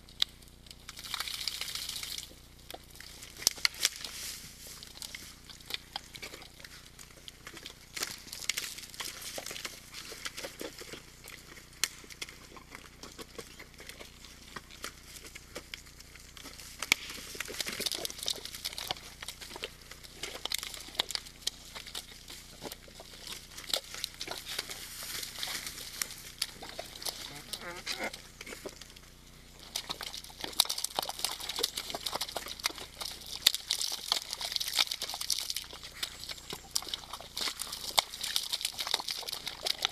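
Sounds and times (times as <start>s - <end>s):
wet mud squelches and splashes: 0.0s - 39.9s
hooves clicking: 2.7s - 39.9s.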